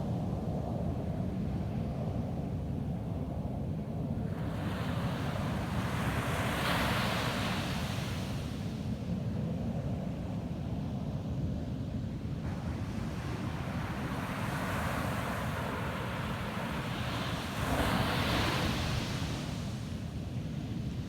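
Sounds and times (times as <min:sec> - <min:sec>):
low rumble of surf: 0:00.0 - 0:21.0.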